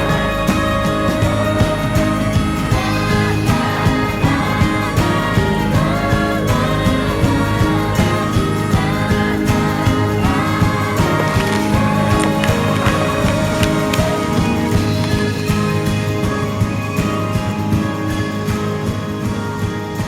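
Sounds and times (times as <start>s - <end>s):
background music with beat: 0.0s - 20.0s.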